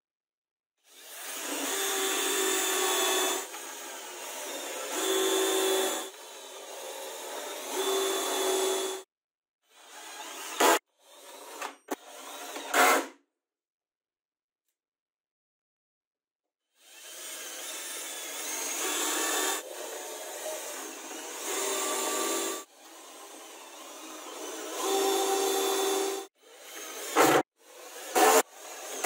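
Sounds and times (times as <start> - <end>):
cordless drill driving screws: 0.8 - 9.0, 9.8 - 13.1, 16.8 - 29.0.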